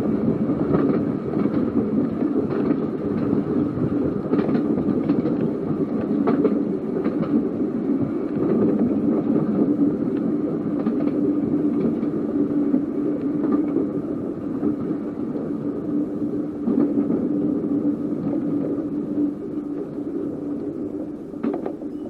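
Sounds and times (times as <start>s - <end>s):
tram rumbling along track: 0.0s - 22.0s.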